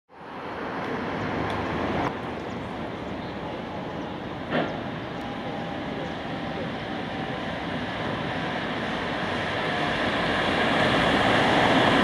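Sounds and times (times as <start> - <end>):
road traffic rushing: 0.1 - 12.0
streetcar on tracks: 0.1 - 12.0.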